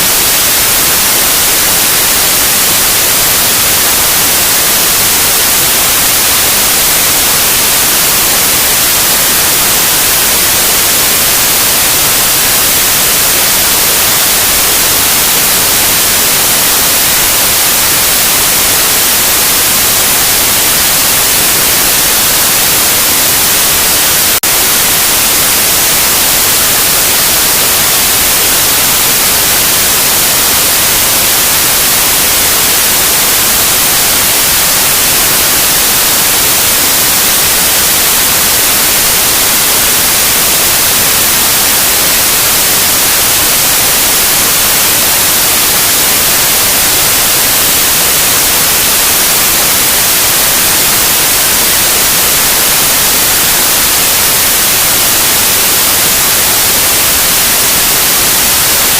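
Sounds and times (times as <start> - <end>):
loud white noise hiss: 0.0 - 58.9.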